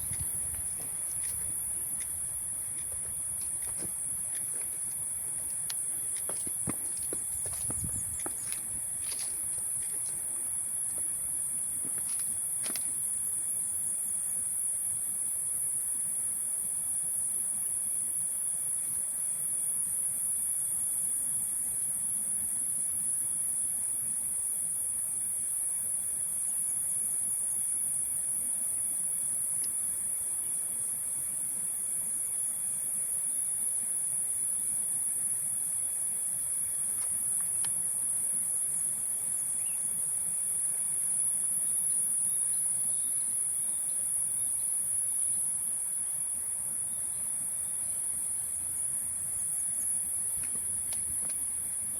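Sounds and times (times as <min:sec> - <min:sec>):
high-pitched insect chorus: 0:00.0 - 0:51.9
lower steady insect tone: 0:00.0 - 0:51.9.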